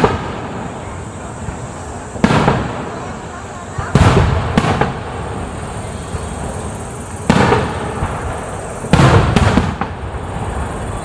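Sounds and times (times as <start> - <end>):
fireworks shells bursting: 0.0 - 11.0.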